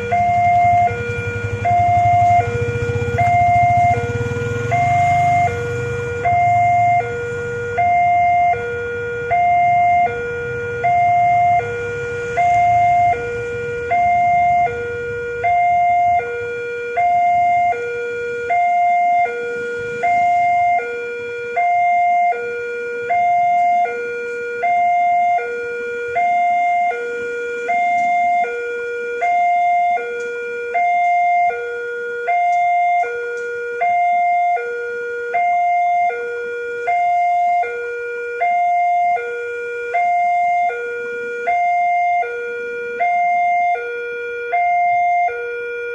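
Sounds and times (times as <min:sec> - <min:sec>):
two-tone crossing alarm chime: 0:00.0 - 0:45.9.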